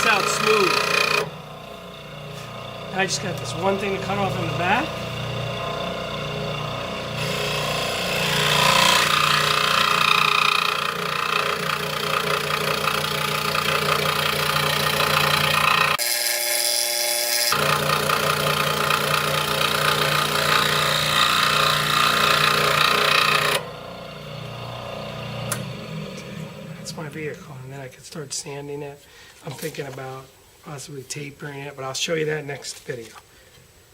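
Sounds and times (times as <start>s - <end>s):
scroll saw cutting: 0.0s - 27.7s.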